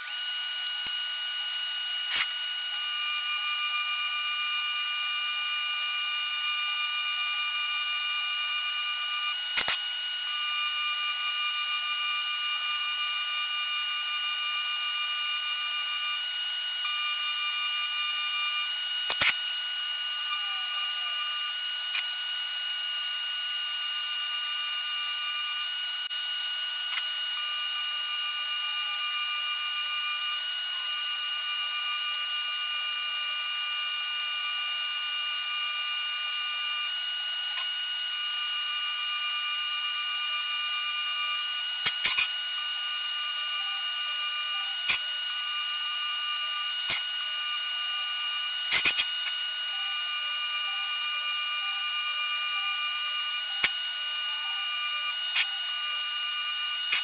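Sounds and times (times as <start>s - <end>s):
welding arc buzzing: 0.0s - 57.0s.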